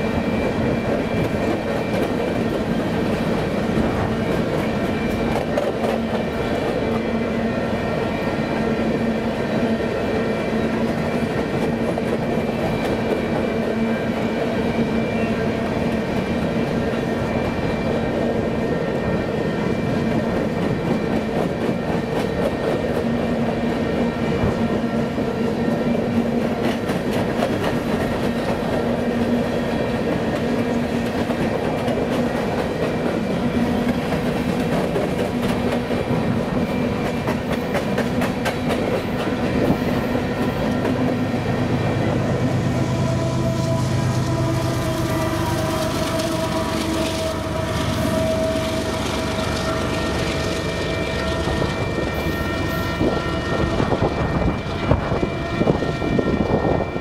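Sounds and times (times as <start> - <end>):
diesel locomotives humming: 0.0 - 57.0
freight train wheels rumbling: 0.0 - 57.0.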